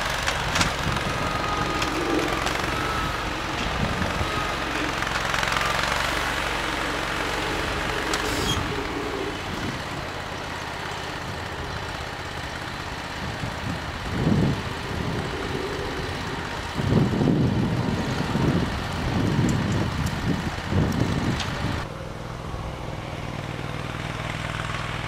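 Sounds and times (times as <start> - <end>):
garden tractor engine running: 0.0 - 25.0.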